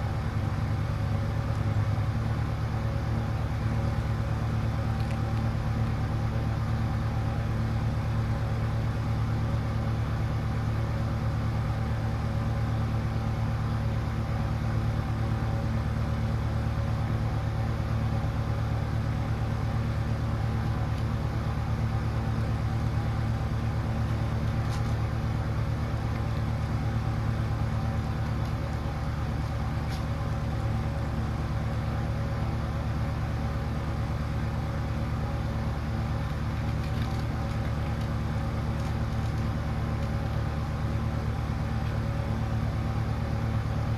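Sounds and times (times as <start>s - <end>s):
low mechanical hum with hiss: 0.0s - 43.9s.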